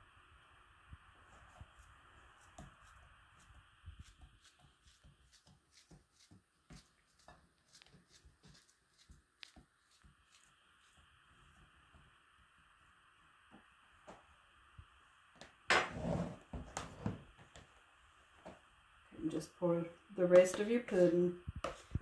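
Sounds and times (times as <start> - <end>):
quiet steady hiss: 0.0 - 22.0.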